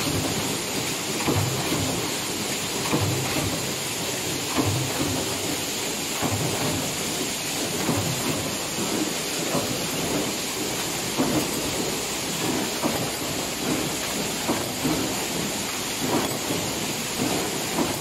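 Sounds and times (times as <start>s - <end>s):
heavy thuds of press strokes: 0.0s - 18.0s
workshop noise hiss: 0.0s - 18.0s.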